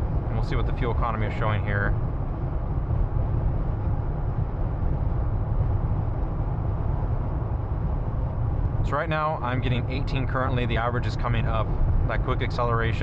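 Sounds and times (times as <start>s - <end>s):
road noise rumble in car cabin: 0.0s - 13.0s.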